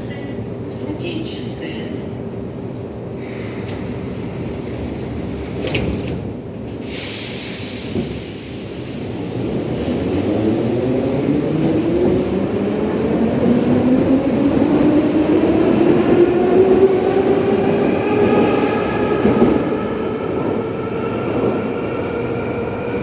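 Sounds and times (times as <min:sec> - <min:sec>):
train running over track: 0:00.0 - 0:23.0.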